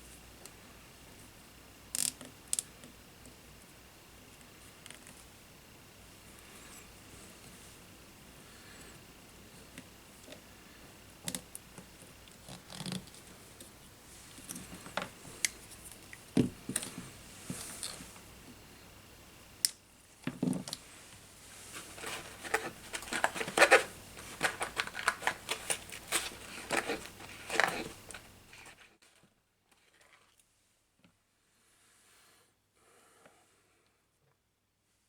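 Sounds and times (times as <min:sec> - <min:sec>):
low background hum: 0:00.0 - 0:31.7.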